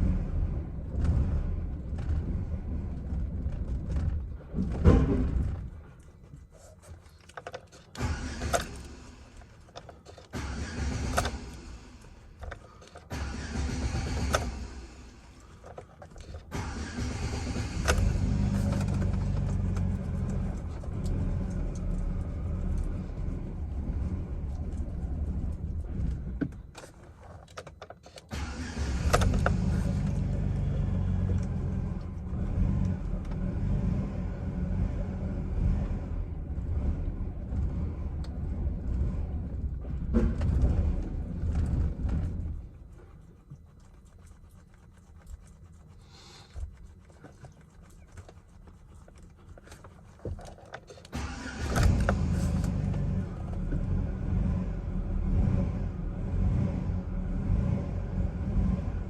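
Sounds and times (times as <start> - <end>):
engine cranking over: 0.0 - 43.1, 48.1 - 59.0.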